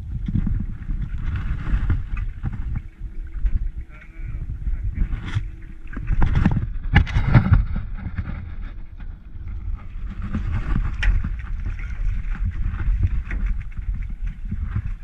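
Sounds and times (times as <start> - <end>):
water sloshing around boat: 0.0 - 15.0
wind buffeting microphone: 0.0 - 15.0.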